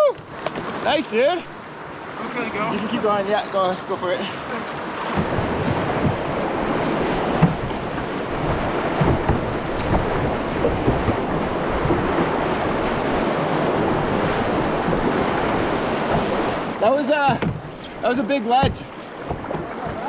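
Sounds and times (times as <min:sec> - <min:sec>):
waves splashing against boat: 0:00.0 - 0:20.0
whitewater rapids rushing: 0:00.0 - 0:20.0.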